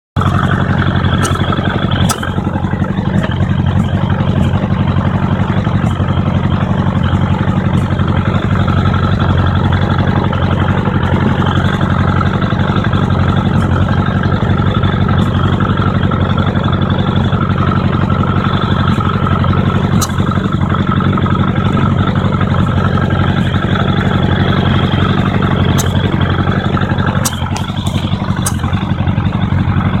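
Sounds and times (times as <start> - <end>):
motorcycle engine running: 0.1 - 30.0.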